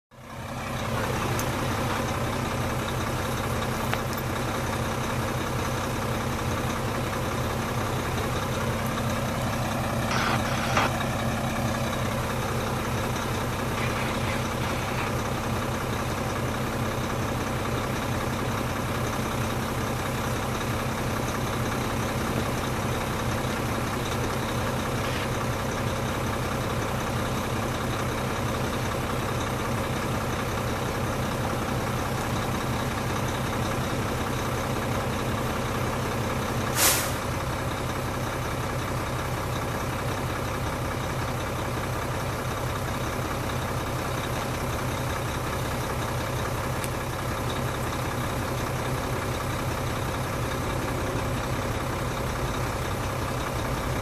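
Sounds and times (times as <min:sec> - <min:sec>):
diesel locomotive engine drone: 0:00.1 - 0:54.0.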